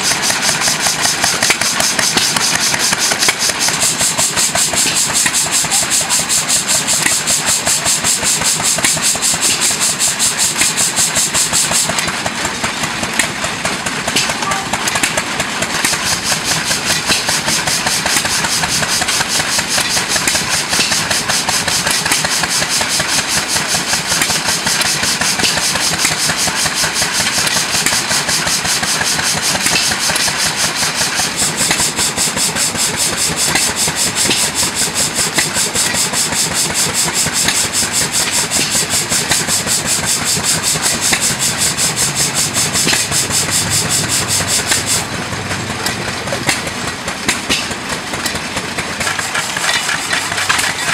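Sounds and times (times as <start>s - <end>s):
model steam engine puffing: 0.0s - 50.9s.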